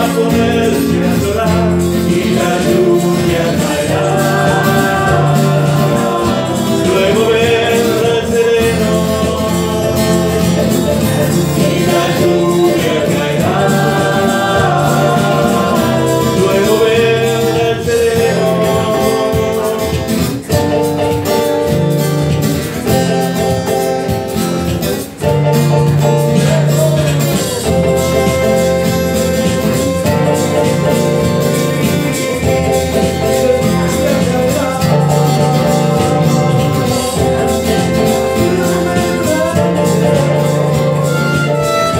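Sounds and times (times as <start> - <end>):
acoustic guitar: 0.0 - 41.9
keyboard: 0.0 - 41.9.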